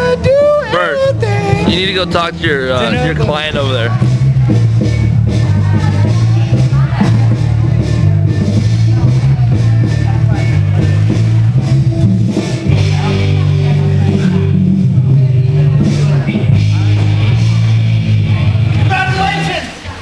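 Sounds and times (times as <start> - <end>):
loud rock music: 0.0 - 19.6.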